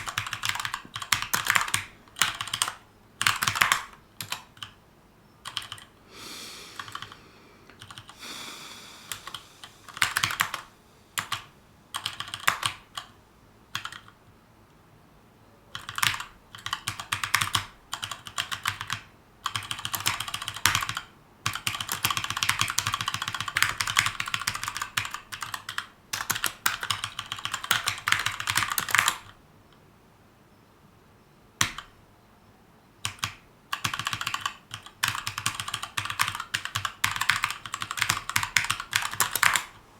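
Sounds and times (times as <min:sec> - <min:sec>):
mechanical keyboard typing: 0:00.0 - 0:04.8, 0:05.4 - 0:05.9, 0:06.8 - 0:08.2, 0:09.2 - 0:14.2, 0:15.7 - 0:29.4, 0:31.6 - 0:31.9, 0:33.0 - 0:39.8.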